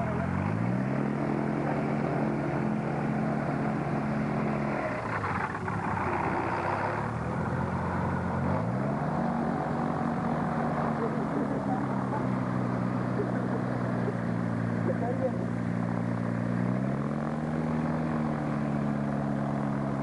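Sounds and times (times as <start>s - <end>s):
propeller aircraft engine: 0.0s - 20.0s.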